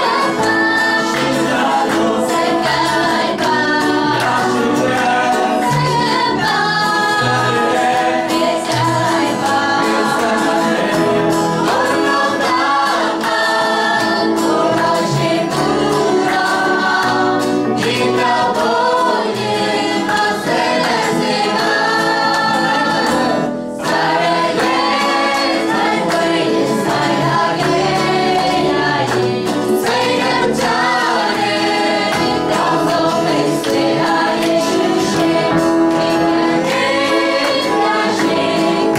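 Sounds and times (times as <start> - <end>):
acoustic guitar: 0.0 - 38.9
group singing together: 0.0 - 38.9.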